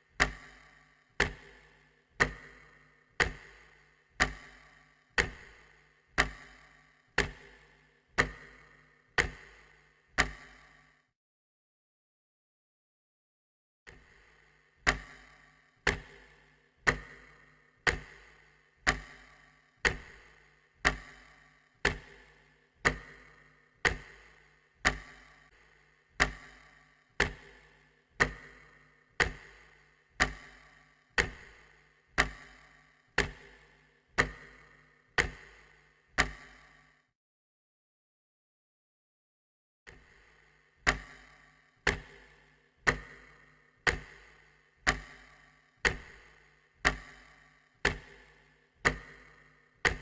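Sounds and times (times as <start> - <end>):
clock ticking: 0.1 - 10.9, 13.9 - 36.9, 39.9 - 50.0.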